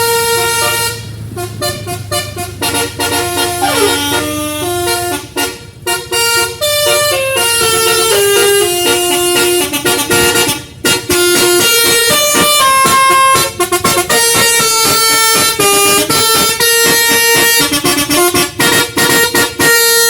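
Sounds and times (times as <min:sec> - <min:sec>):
tuned air horns playing a tune: 0:00.0 - 0:20.0.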